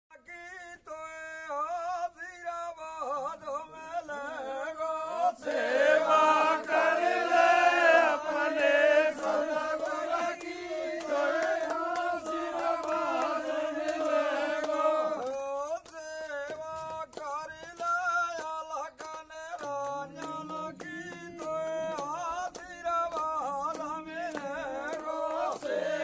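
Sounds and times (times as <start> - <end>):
men chanting devotional song: 0.1 - 26.0
hand-clapping: 4.8 - 26.0.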